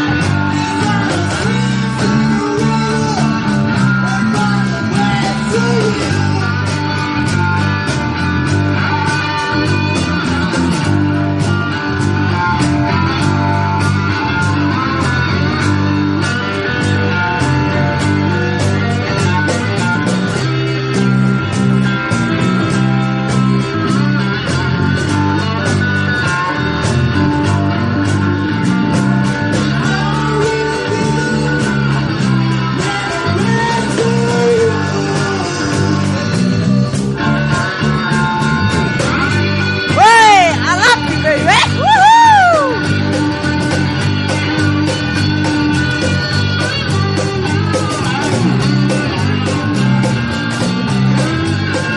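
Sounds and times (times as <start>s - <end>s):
bass line: 0.0s - 51.9s
electric guitar: 0.0s - 51.9s
live blues-rock band playing: 0.0s - 51.9s
regular drum beat: 0.0s - 51.9s.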